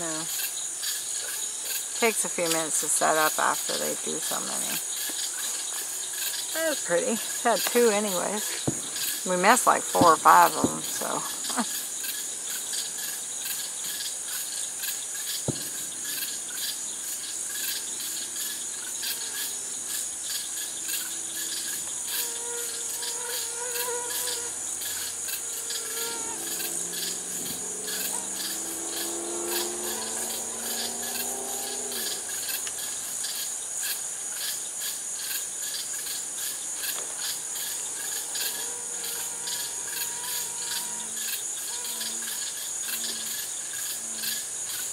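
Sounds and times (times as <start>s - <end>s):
night insects chorus: 0.0s - 44.9s.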